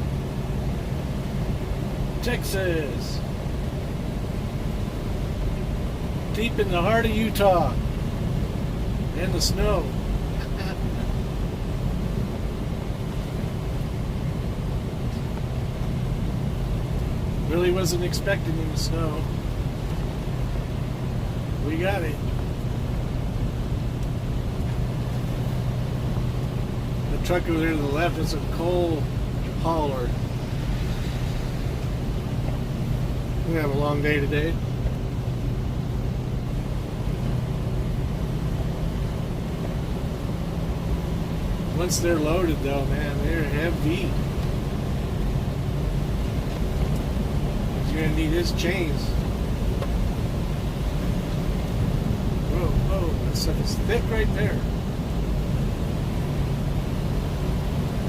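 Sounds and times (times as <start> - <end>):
road noise: 0.0 - 58.0
truck diesel engine droning: 0.0 - 58.0.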